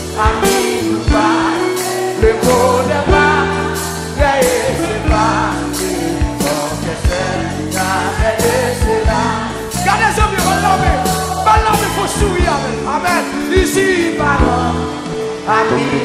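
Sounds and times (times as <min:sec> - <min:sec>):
steady drum beat: 0:00.0 - 0:14.8
band playing: 0:00.0 - 0:16.0
held bass notes: 0:00.0 - 0:16.0
person singing: 0:00.0 - 0:16.0.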